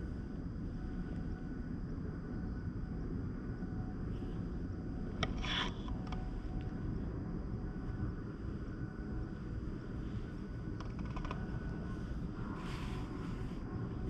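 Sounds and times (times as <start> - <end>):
wind rumble on the microphone: 0.0 - 14.0.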